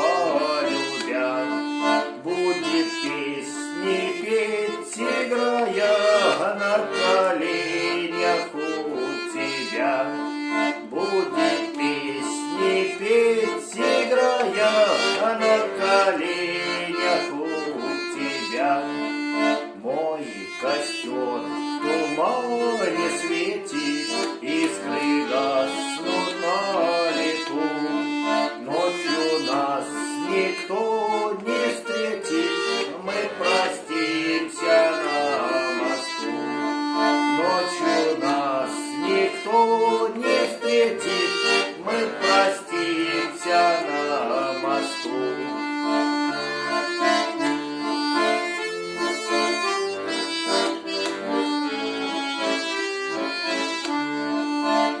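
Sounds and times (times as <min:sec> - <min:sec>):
accordion playing folk melody: 0:00.0 - 0:55.0.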